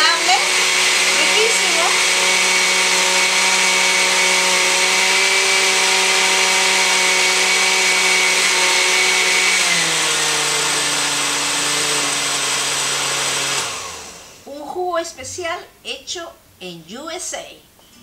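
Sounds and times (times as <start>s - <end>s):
blender motor running: 0.0s - 14.4s.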